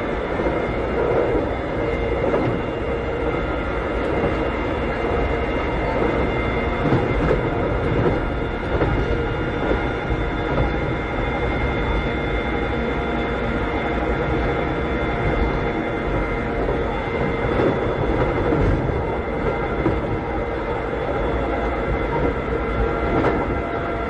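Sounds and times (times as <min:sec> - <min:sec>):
rail joint clacks: 0:00.0 - 0:11.2, 0:14.4 - 0:20.8, 0:21.8 - 0:24.0
train interior rumble: 0:00.0 - 0:24.0.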